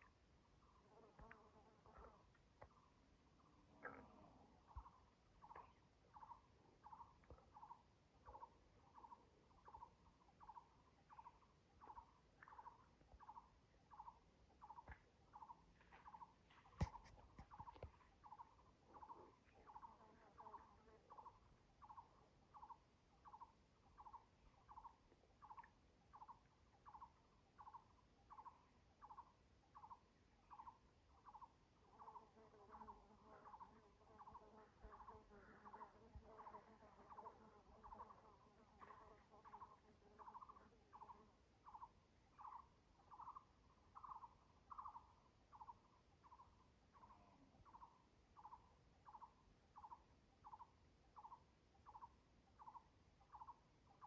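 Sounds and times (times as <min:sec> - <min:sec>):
faint repeated animal call: 0:00.0 - 0:54.0.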